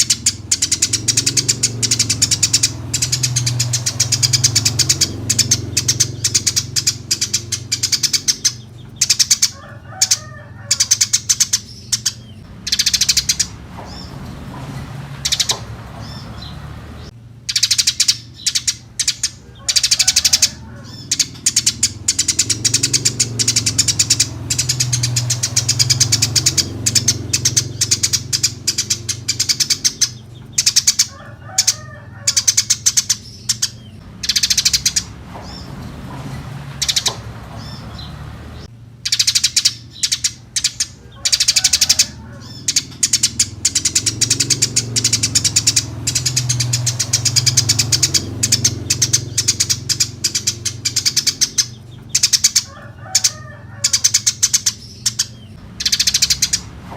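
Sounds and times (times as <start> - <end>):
sparrows chirping: 0.0 - 56.9.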